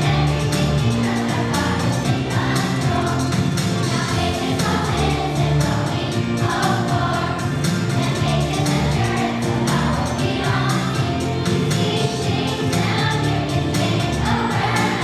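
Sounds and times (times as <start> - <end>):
choir singing gospel song: 0.0 - 15.0
instrumental accompaniment with beat: 0.0 - 15.0.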